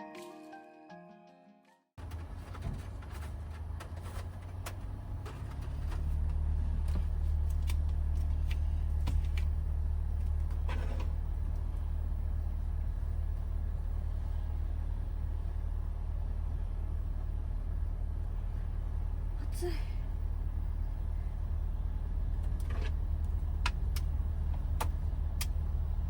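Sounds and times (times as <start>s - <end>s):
van engine rumbling: 2.0s - 26.0s.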